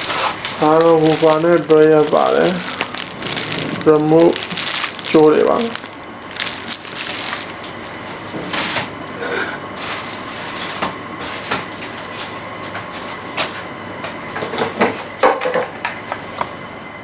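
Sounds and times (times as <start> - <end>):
packaging rustling: 0.0 - 16.3
faint steady hum: 0.0 - 17.0.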